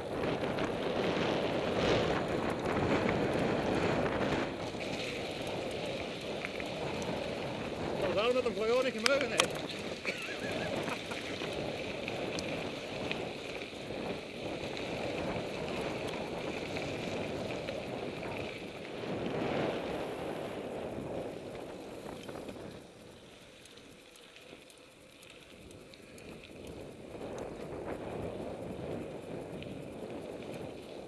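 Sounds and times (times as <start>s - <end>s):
wind rushing over microphone: 0.0s - 24.1s, 25.4s - 31.0s
bike rattles: 0.0s - 31.0s
bike tyres rolling: 0.0s - 31.0s.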